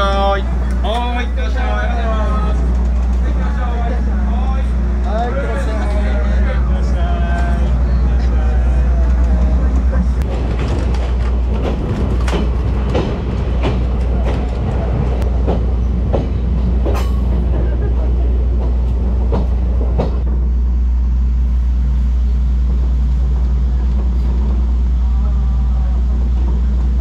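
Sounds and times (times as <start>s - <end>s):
train running drone: 0.0s - 27.0s.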